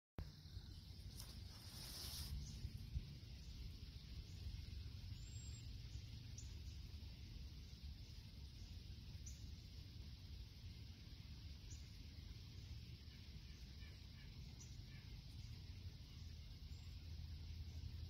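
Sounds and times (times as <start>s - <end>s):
soft high hiss: 0.2s - 18.0s.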